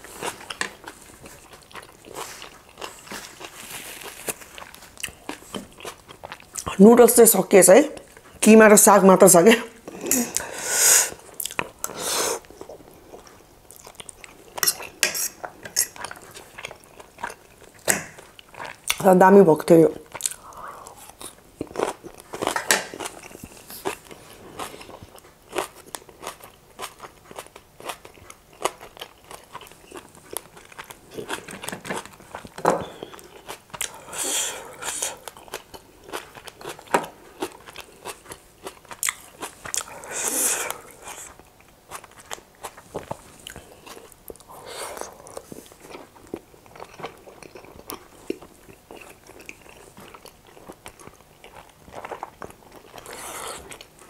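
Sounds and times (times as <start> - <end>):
chewing with mouth clicks: 0.1 - 6.8, 11.2 - 19.0, 20.0 - 54.0.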